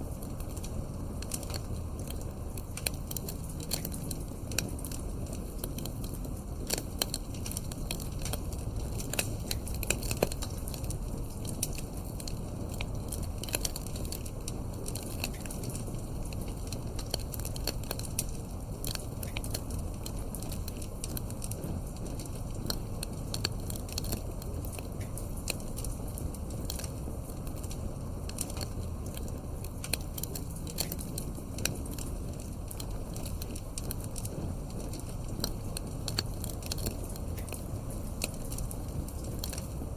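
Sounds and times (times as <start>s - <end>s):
fire flames rushing: 0.0s - 39.9s
wood fire pops and crackles: 0.0s - 39.9s.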